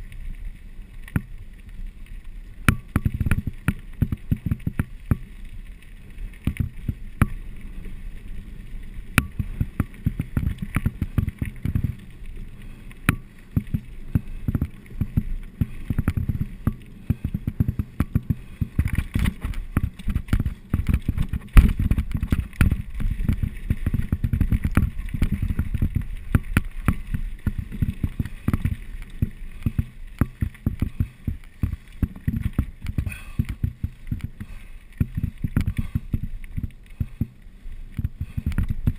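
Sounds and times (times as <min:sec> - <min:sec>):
mountain bike rumbling on rough trail: 0:00.0 - 0:38.9
bike tyres knocking and rattling: 0:00.9 - 0:38.9.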